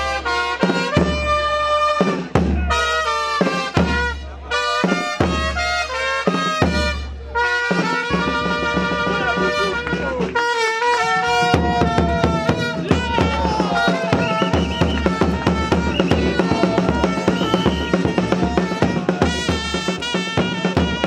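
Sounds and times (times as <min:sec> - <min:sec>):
music with fast drum beat: 0:00.0 - 0:21.0.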